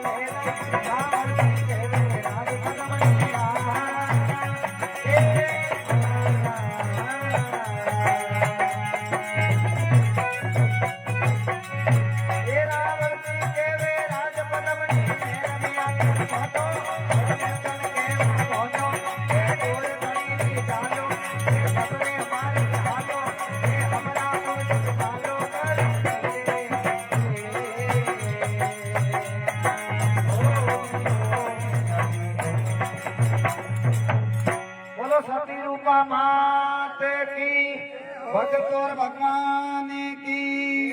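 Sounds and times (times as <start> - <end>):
devotional song with drum beat: 0.0 - 37.6.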